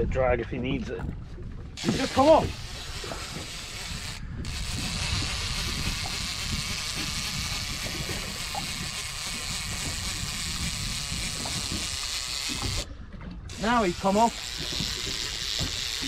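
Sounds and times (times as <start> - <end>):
wind buffeting microphone: 0.0 - 16.0
fishing reel winding: 1.8 - 12.9, 13.5 - 16.0.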